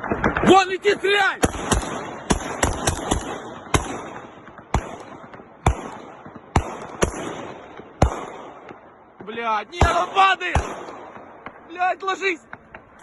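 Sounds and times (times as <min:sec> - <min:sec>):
rifle single shots with echo: 0:00.0 - 0:13.0.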